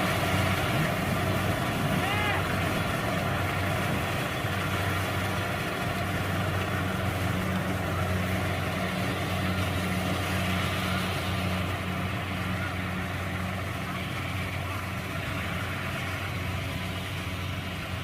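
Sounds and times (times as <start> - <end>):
harvester engine droning: 0.0 - 18.0.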